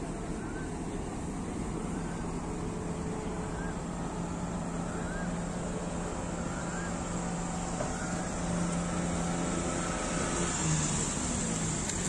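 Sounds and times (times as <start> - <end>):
low engine drone: 0.0 - 12.0
outdoor background noise: 0.0 - 12.0.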